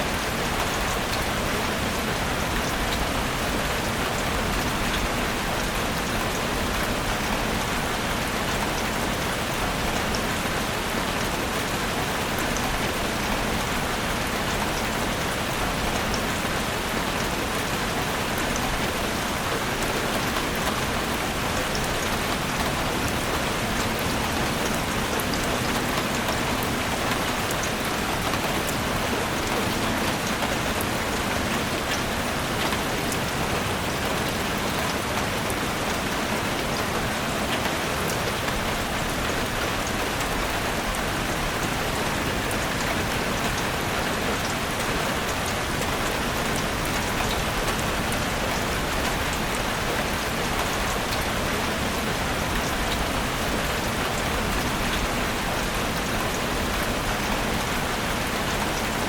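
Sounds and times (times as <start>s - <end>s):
rain pattering in forest: 0.0s - 59.0s.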